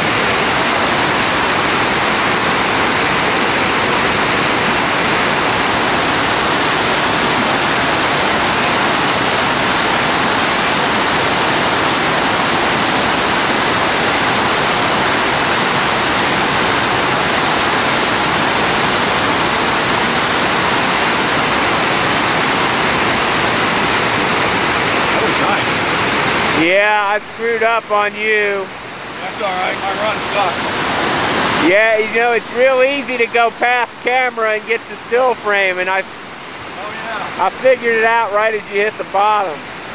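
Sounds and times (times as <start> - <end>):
whitewater rushing over boulders: 0.0 - 39.9.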